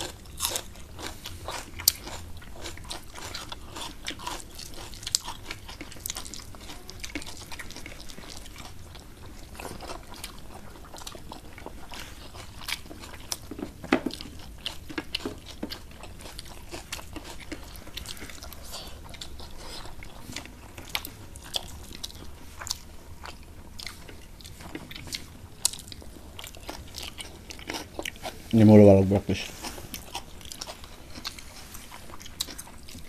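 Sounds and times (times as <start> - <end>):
chewing: 0.0 - 28.6, 29.3 - 33.0.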